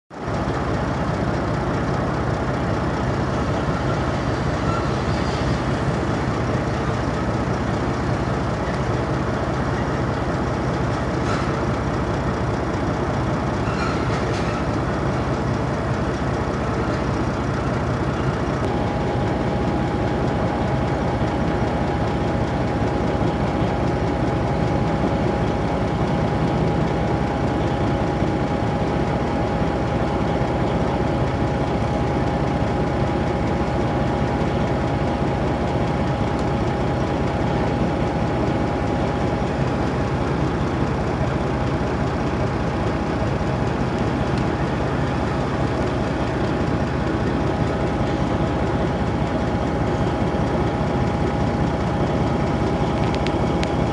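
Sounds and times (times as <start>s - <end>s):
heavy engine rumble: 0.1s - 53.9s.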